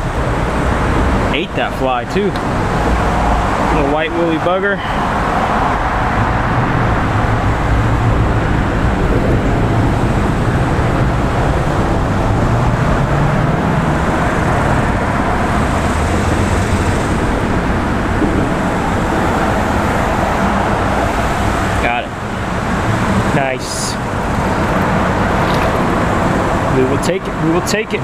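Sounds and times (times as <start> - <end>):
low engine hum: 0.0 - 28.0
passing cars and trucks: 0.0 - 28.0.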